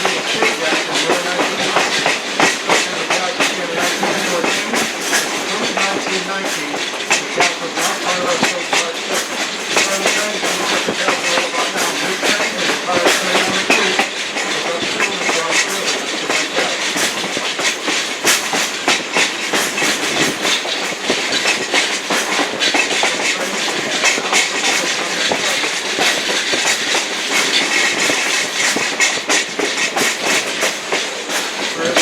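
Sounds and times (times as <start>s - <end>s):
train wheels on rails: 0.0s - 32.0s.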